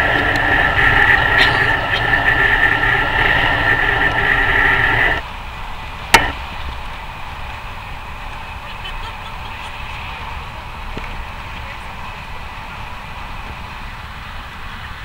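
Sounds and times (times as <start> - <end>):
train rushing with high whine: 0.0 - 15.0.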